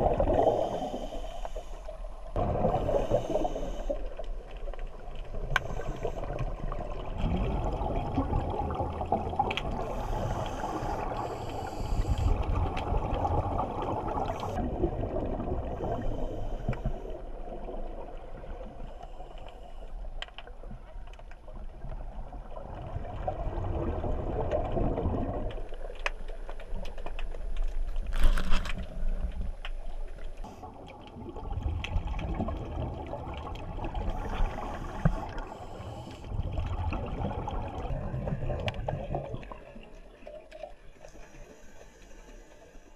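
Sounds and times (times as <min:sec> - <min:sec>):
muffled water gurgling underwater: 0:00.0 - 0:19.3, 0:20.0 - 0:27.9, 0:28.9 - 0:41.7
scuba bubbles: 0:00.0 - 0:42.9.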